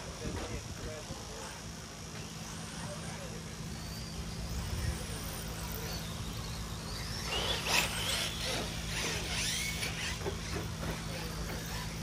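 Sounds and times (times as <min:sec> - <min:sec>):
rc car motors whining: 0:00.0 - 0:12.0
steady low hum: 0:00.0 - 0:12.0.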